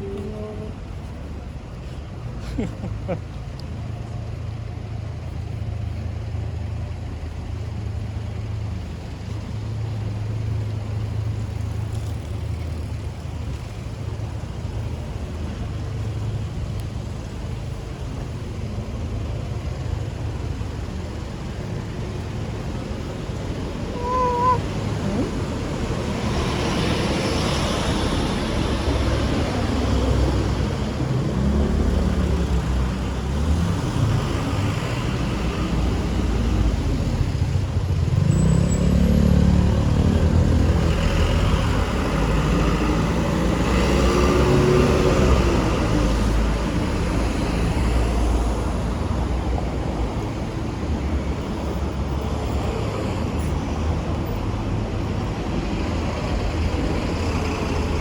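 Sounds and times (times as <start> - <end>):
cars passing: 0.0 - 58.0
low traffic rumble: 0.0 - 58.0.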